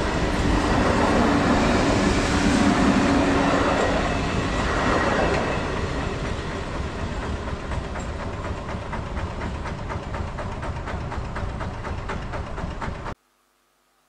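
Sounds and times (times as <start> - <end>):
train rumbling past: 0.0 - 13.2
train wheels clicking over rail joints: 0.0 - 13.2.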